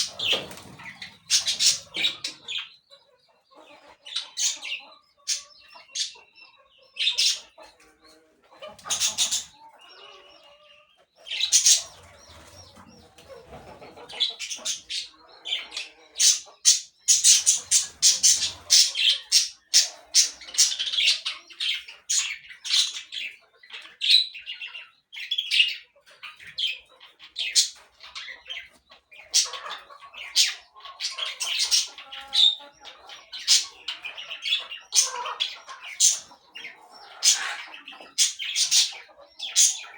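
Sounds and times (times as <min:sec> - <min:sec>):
parakeets chattering: 0:00.0 - 0:07.7, 0:08.6 - 0:39.9.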